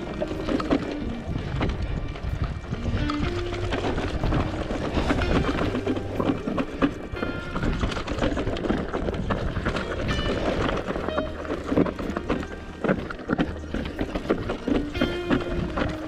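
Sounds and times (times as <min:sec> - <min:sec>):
bike rattling over rocks: 0:00.0 - 0:16.0.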